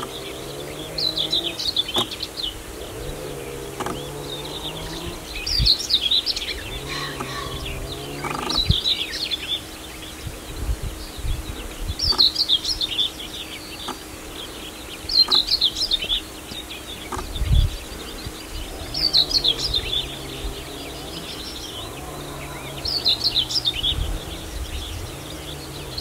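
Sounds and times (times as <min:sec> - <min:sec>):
small birds twittering: 0:00.0 - 0:26.0.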